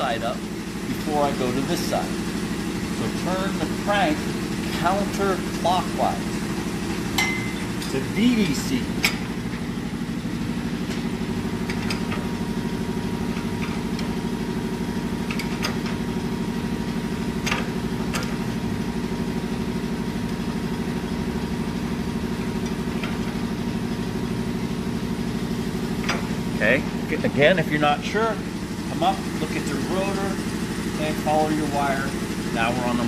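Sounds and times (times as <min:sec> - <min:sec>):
machine humming: 0:00.0 - 0:33.0.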